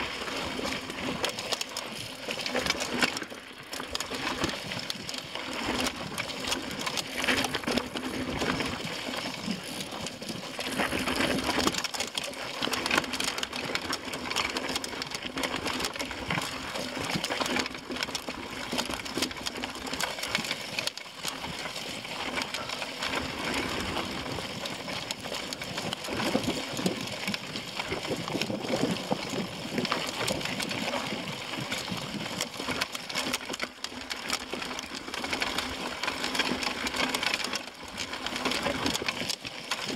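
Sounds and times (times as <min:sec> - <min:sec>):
bike clattering over rocky ground: 0:00.2 - 0:39.9.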